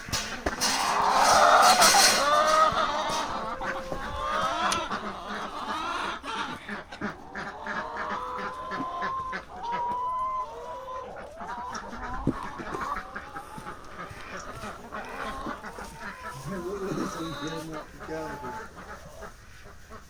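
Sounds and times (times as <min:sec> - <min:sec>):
farm animals drawn-out calls: 0:00.0 - 0:20.0.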